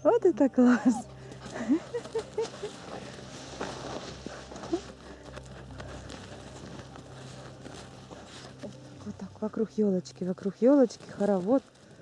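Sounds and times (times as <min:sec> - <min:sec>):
footsteps crunching through snow: 0:00.6 - 0:12.0.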